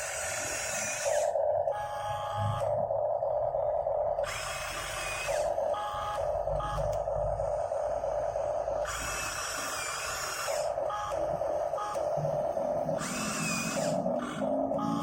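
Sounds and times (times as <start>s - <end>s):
toy electric gear motors whining: 0.0s - 2.8s, 4.1s - 15.0s.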